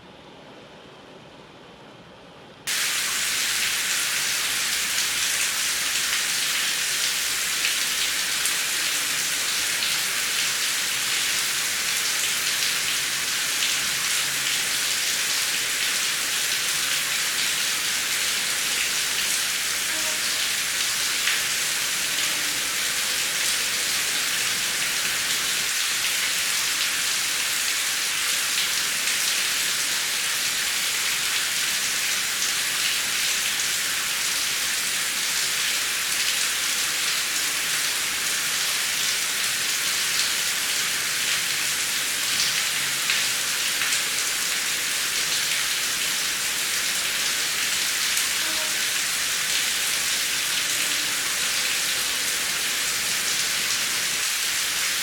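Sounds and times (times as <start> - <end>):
heavy rain falling: 2.7 - 55.0.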